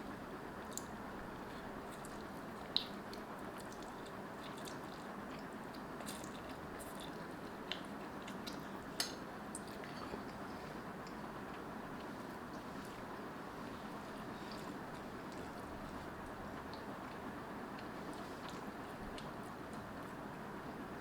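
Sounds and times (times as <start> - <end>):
person chewing noodles: 0.6 - 20.2.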